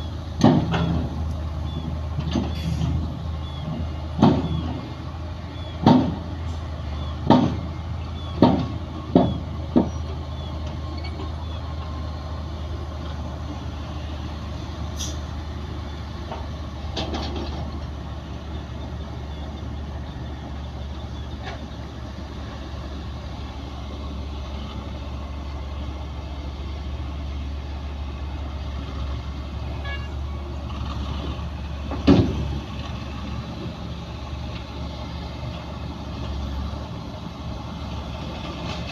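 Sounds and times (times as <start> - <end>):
diesel machinery engine drone: 0.0 - 38.9.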